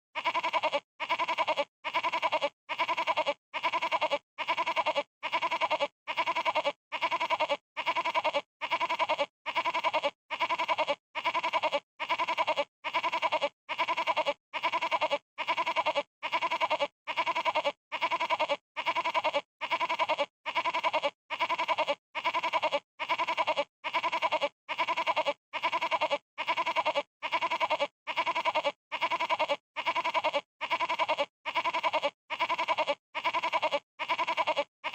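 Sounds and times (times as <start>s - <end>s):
goat bleating: 0.2s - 34.9s.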